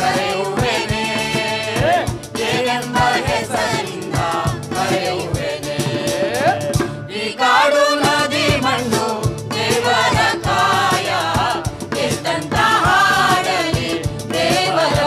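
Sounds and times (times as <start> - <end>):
group singing over percussion: 0.0 - 15.0.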